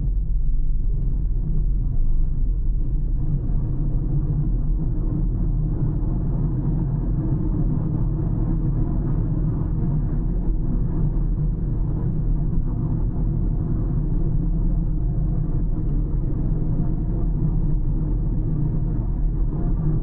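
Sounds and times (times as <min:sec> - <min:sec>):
road and tyre noise: 0:00.0 - 0:20.0.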